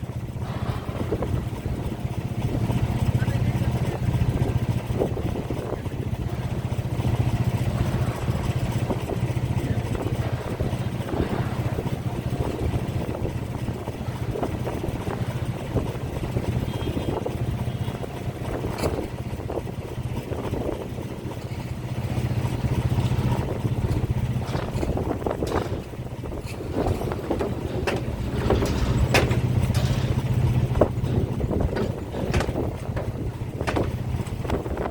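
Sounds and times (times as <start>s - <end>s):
large engine running: 0.0s - 34.9s.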